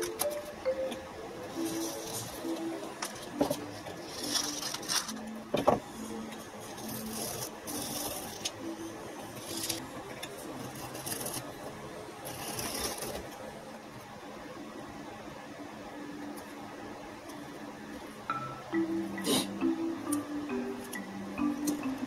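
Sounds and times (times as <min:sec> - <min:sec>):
quiet background music: 0:00.0 - 0:22.0.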